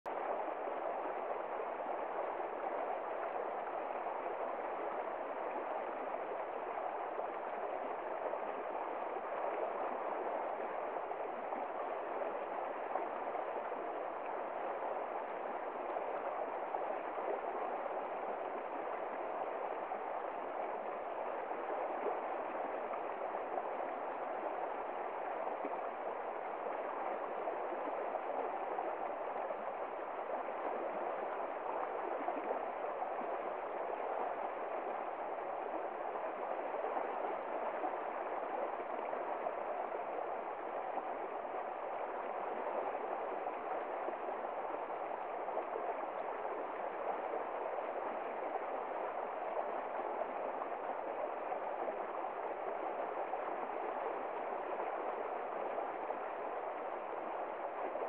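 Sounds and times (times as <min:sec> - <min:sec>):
stream rushing over stones: 0:00.1 - 0:58.0.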